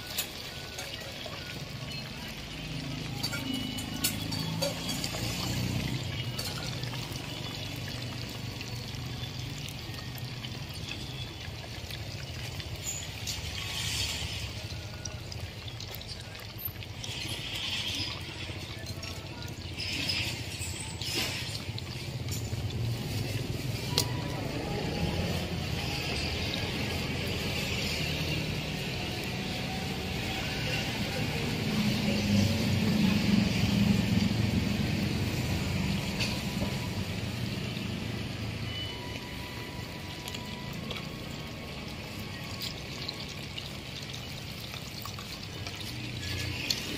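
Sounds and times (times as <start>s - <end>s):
deep-frying sizzling and bubbling: 0.0s - 46.9s.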